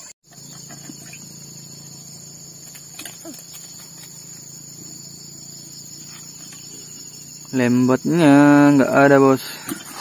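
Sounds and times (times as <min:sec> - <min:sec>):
insects chirring in grass: 0:00.0 - 0:10.0.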